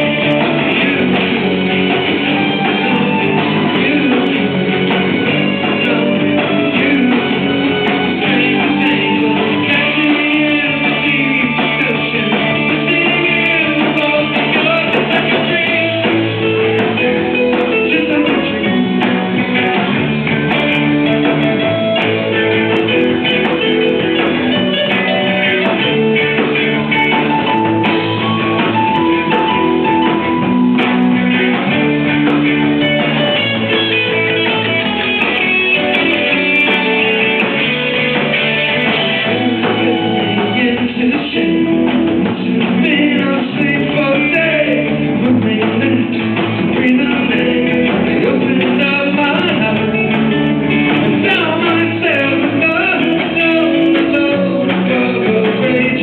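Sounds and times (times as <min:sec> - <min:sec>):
person singing: 0:00.0 - 0:19.9, 0:20.7 - 0:56.0
loud rock music: 0:00.0 - 0:56.0.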